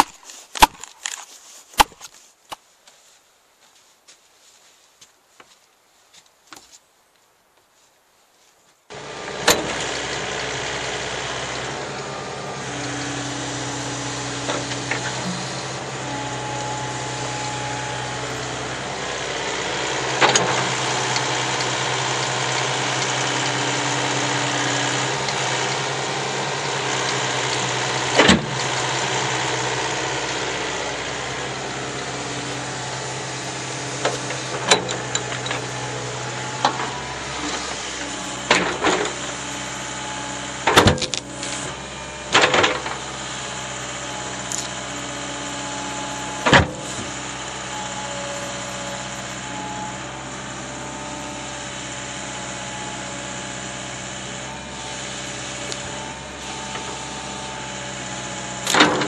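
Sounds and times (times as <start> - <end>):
excavator diesel engine running: 8.9 - 59.0.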